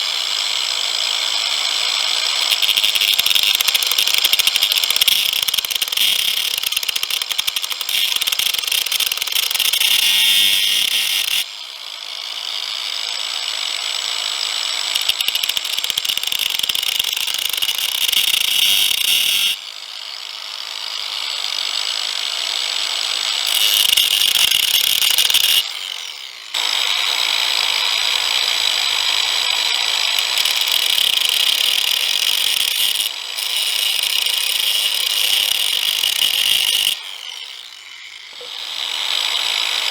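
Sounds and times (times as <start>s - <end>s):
power grinder grinding steel: 0.0s - 39.9s.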